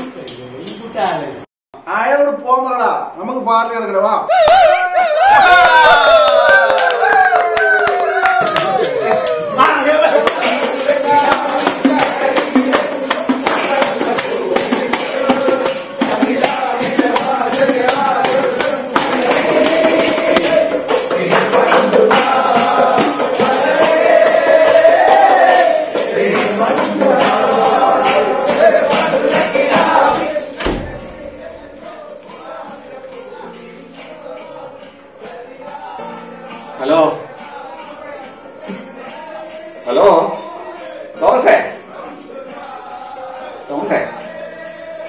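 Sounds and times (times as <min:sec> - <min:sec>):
tambourines jingling: 0:00.0 - 0:01.4, 0:08.4 - 0:45.0
men singing together: 0:08.3 - 0:45.0.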